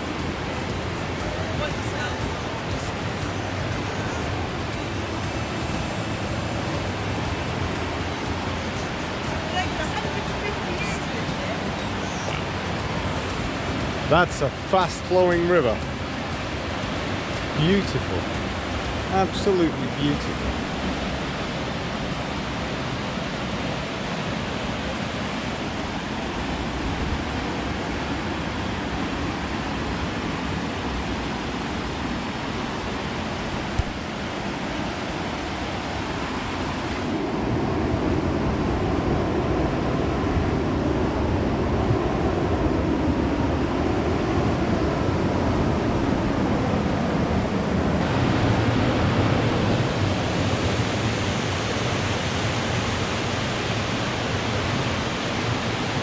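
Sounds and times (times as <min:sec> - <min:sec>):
river rushing through a gorge: 0:00.0 - 0:56.0.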